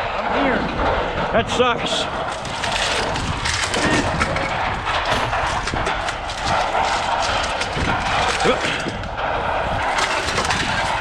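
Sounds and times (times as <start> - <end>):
steady noisy background: 0.0 - 11.0
scrap metal clanking: 2.0 - 11.0.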